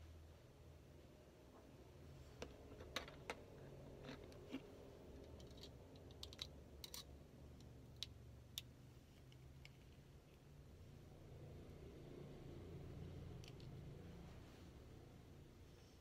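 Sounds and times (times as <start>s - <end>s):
faint low room hum: 0.0s - 16.0s.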